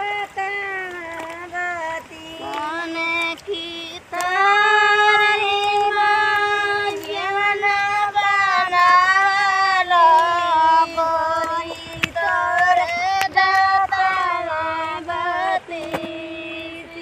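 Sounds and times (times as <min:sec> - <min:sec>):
women singing folk song: 0:00.0 - 0:17.0.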